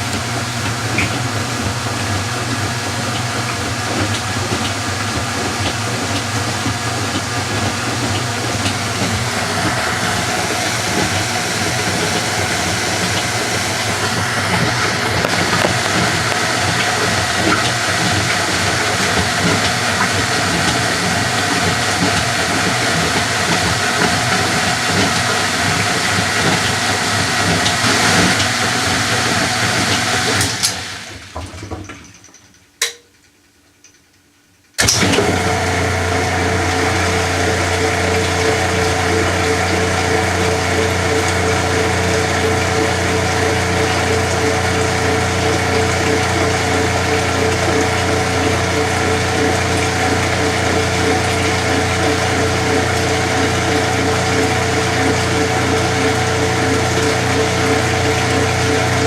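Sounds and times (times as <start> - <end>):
washing machine mechanism running: 0.0 - 59.0.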